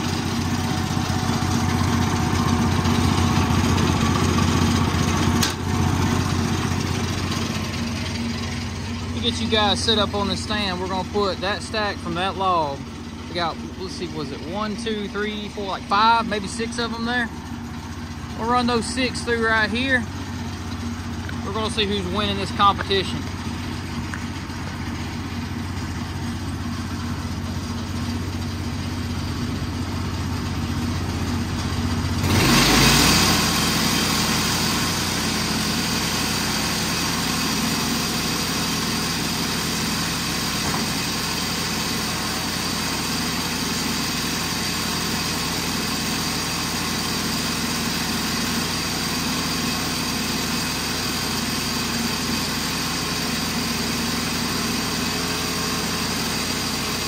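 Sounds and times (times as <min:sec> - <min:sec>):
saw gas engine running: 0:00.0 - 0:57.0.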